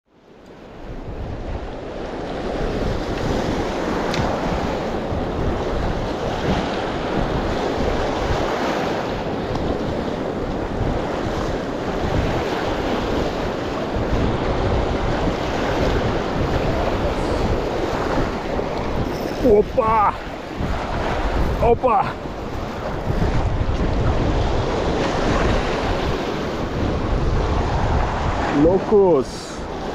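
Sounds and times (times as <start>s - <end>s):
wind buffeting microphone: 0.3s - 29.9s
surf washing over rocks: 0.4s - 29.9s.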